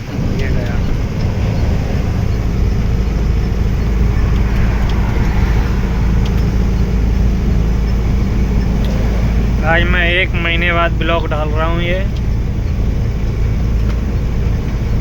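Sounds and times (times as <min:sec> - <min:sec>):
road and tyre noise: 0:00.0 - 0:15.0
truck engine drone: 0:00.0 - 0:15.0.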